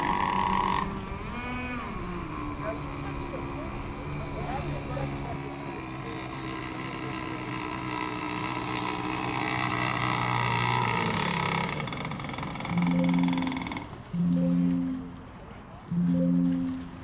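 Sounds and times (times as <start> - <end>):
racing boat motor: 0.0 - 17.0.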